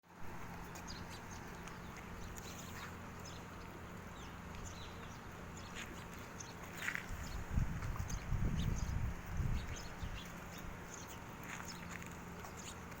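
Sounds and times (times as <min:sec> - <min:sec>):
steady low hum: 0:00.0 - 0:13.0
small birds chirping: 0:00.2 - 0:13.0.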